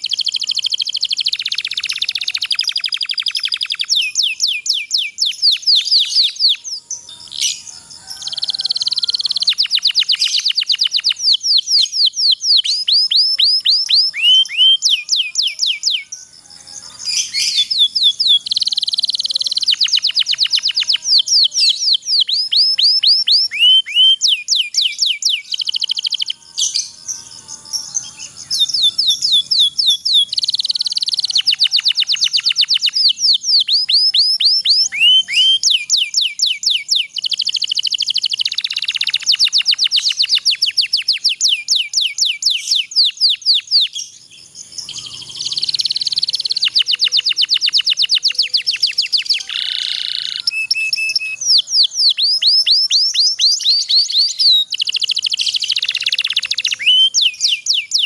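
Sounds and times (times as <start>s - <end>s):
canary singing rolling trills: 0.0s - 58.0s.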